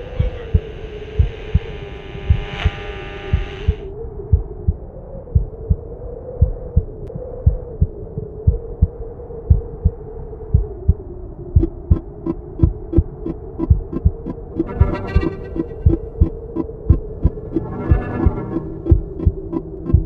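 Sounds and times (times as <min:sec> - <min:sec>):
heartbeat thumps: 0:00.1 - 0:20.0.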